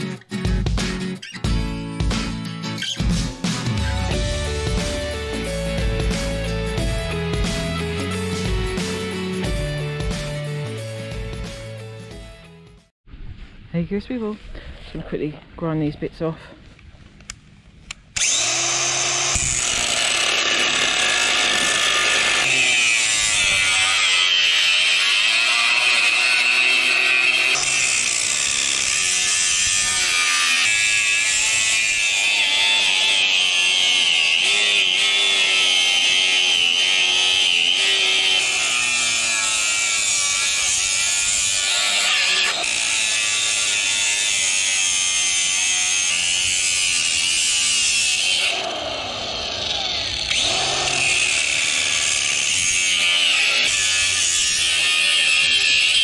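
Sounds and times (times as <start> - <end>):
electric grinder grinding metal: 3.6 - 11.2, 18.2 - 56.0.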